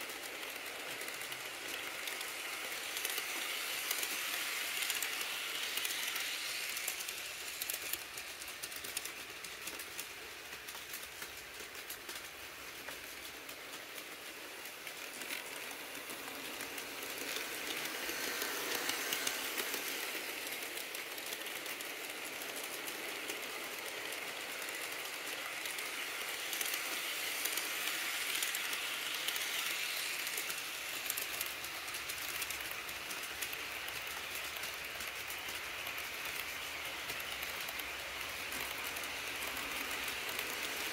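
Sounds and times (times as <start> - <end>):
model train wheels clattering on rails: 0.0 - 40.9.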